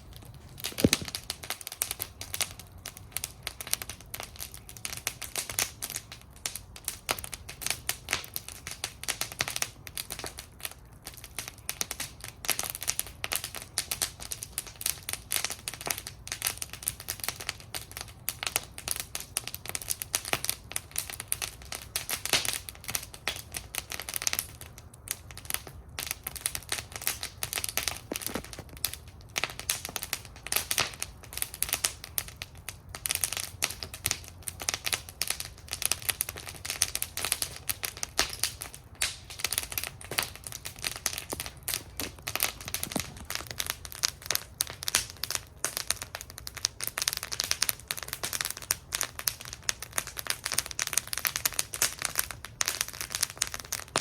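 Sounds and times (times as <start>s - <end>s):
low fire rumble: 0.0s - 54.0s
wood fire crackling and popping: 0.0s - 54.0s.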